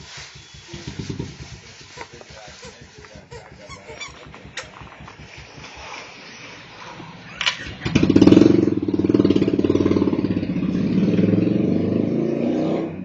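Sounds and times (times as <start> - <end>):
engine starting and running: 0.0 - 13.0.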